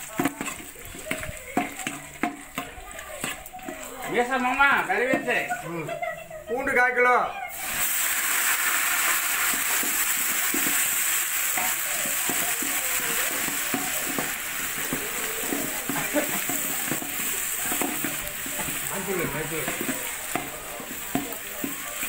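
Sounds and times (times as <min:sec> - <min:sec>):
ladle scraping a pot: 0:00.0 - 0:05.6, 0:09.5 - 0:22.0
garlic sizzling in hot oil: 0:00.0 - 0:05.7, 0:07.5 - 0:22.0.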